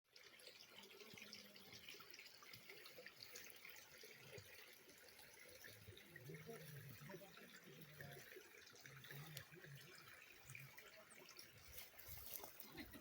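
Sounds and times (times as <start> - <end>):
faint trickling water: 0.1 - 13.0
water drips: 0.1 - 13.0.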